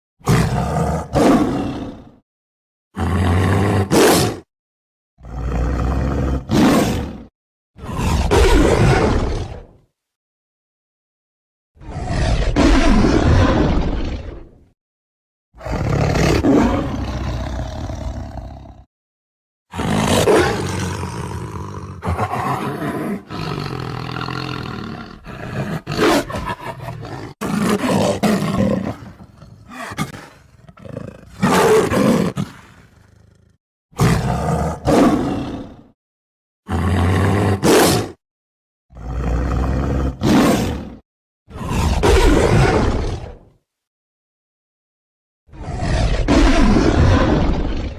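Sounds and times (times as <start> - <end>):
tiger roaring and growling: 0.2 - 2.2, 3.0 - 4.5, 5.2 - 9.9, 11.8 - 14.7, 15.6 - 18.9, 19.7 - 36.0, 36.7 - 38.2, 38.9 - 43.6, 45.5 - 47.9.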